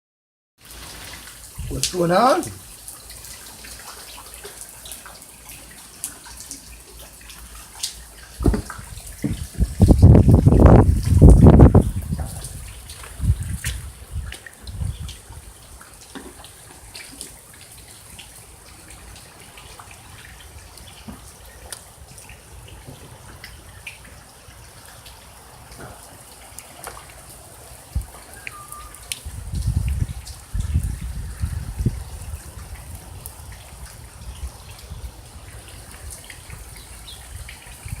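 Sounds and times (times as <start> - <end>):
water drips and splashes: 0.6 - 38.0
water trickling: 0.6 - 38.0.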